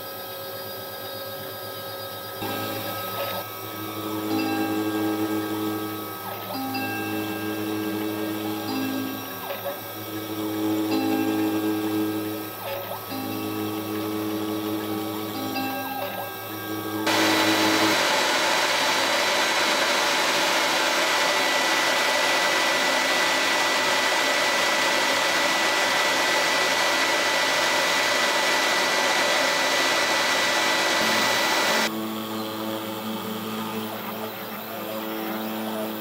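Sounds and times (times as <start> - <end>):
cnc router spindle whining: 0.0 - 36.0
machine hum with motor tones: 0.0 - 36.0.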